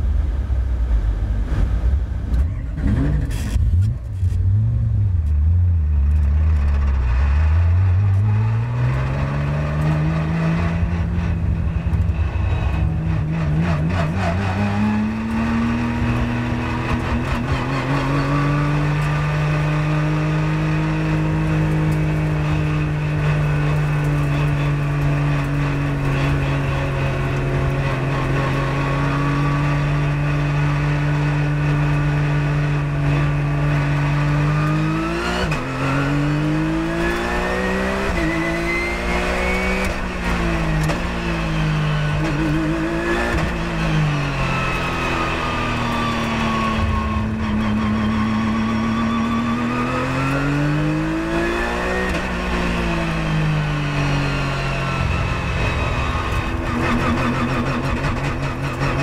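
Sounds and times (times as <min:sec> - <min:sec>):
race car engine revving: 0:01.4 - 0:59.0.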